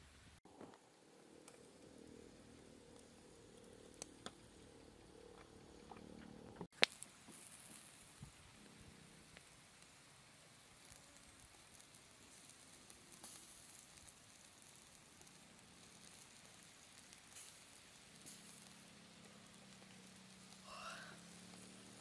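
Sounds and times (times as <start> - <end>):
faint outdoor hiss: 0.0 - 22.0
soft crackles and clicks: 0.4 - 22.0.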